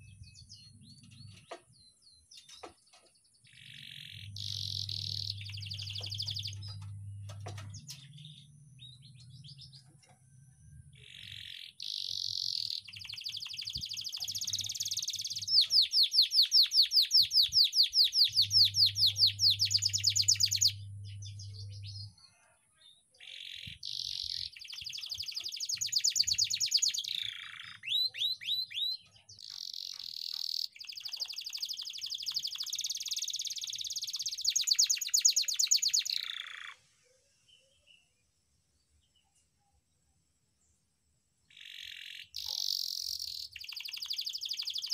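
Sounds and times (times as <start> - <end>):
canary singing trills: 0.0 - 36.9, 41.5 - 44.9.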